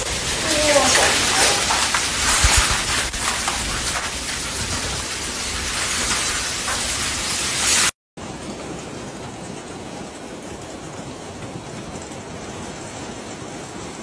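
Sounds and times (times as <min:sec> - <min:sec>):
heavy rain and wind: 0:00.0 - 0:14.0.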